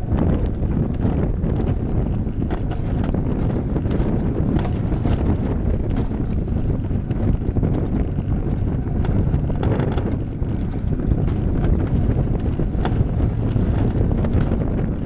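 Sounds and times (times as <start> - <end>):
coaster wheels rumbling on rails: 0.0 - 15.0
sharp clicks and rattles: 0.0 - 15.0
wind rushing over microphone: 0.0 - 15.0.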